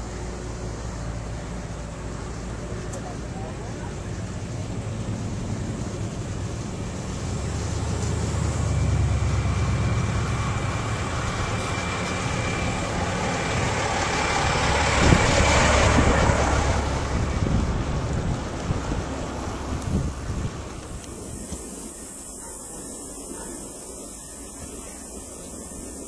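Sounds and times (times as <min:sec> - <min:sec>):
truck passing: 0:00.0 - 0:22.0
road traffic: 0:00.0 - 0:26.0
wind rumble on microphone: 0:02.3 - 0:26.0.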